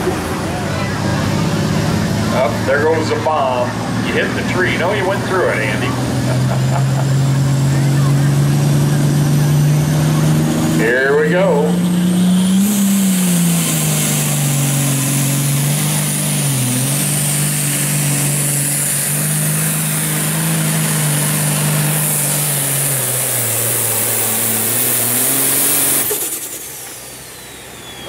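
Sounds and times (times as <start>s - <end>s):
tractor diesel engine droning: 0.0s - 28.0s.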